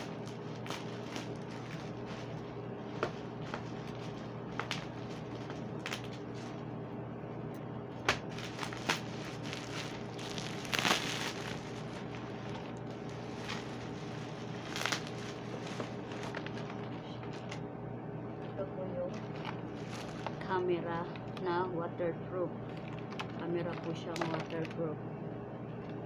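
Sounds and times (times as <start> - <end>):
bubble wrap crinkling: 0.0 - 6.7, 7.9 - 17.6, 18.4 - 21.4, 22.6 - 24.8
bubble wrap rustling: 0.0 - 6.7, 7.9 - 17.6, 18.4 - 21.4, 22.6 - 24.8.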